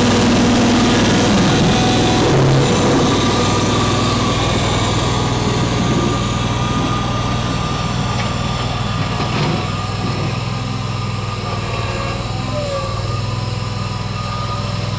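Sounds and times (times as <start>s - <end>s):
engine whine: 0.0s - 14.9s
garden tractor engine running: 0.0s - 14.9s.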